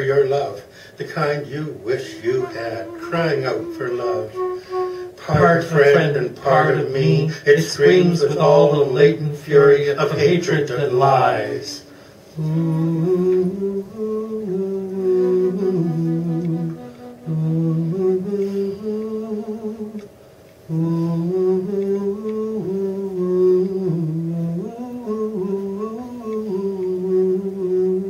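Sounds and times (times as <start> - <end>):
man humming a slow melody: 1.5 - 8.6, 12.3 - 28.0.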